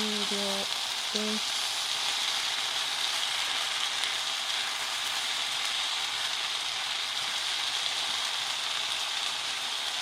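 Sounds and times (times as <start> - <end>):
noodles sizzling in a frying pan: 0.0 - 10.0.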